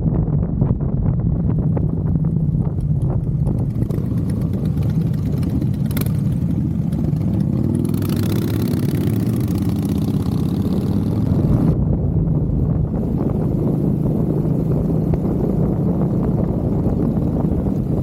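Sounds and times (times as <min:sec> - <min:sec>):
motorcycle engine running: 0:00.7 - 0:18.0.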